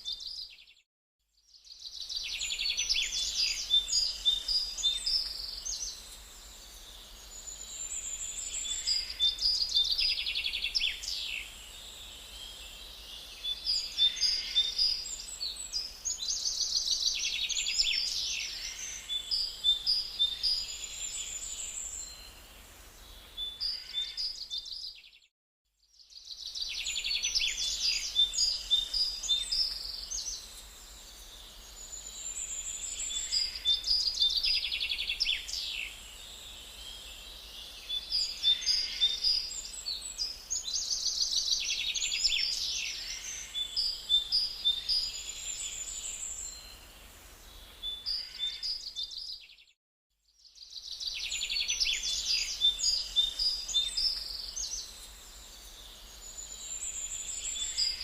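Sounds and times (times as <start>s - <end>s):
songbirds chirping and trilling: 1.4s - 25.3s, 25.9s - 49.8s, 50.4s - 58.0s.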